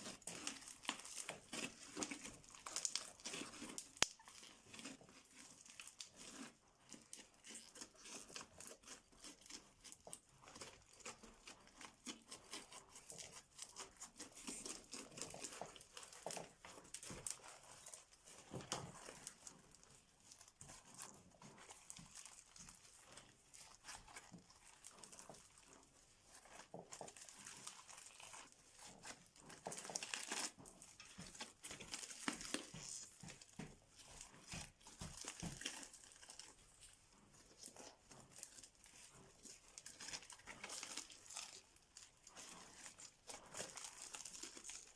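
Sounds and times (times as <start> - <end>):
crunchy slime crackling: 0.0 - 44.9.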